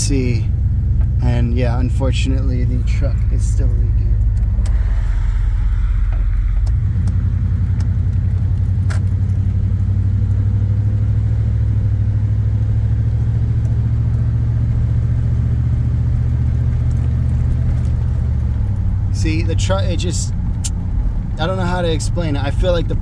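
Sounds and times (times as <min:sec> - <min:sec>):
truck engine and road drone: 0:00.0 - 0:23.0.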